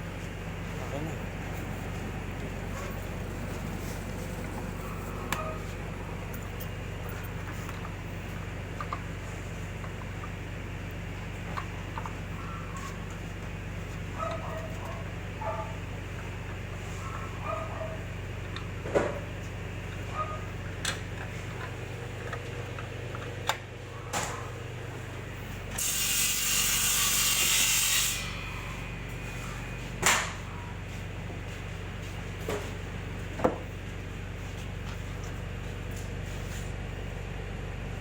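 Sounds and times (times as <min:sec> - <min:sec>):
steady low hum: 0:00.0 - 0:26.2, 0:28.0 - 0:38.0.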